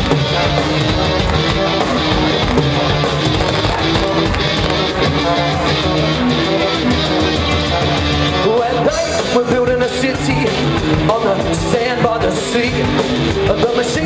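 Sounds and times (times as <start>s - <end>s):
live band playing instrumental: 0.0s - 14.0s.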